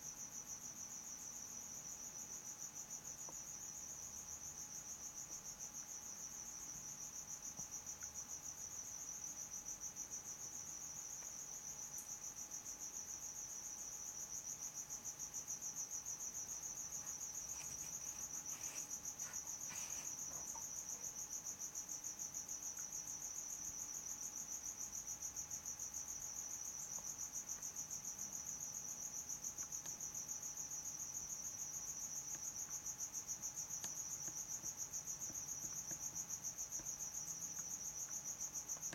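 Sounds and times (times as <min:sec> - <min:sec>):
faint steady hum: 0:00.0 - 0:38.9
cricket trilling: 0:01.8 - 0:38.9.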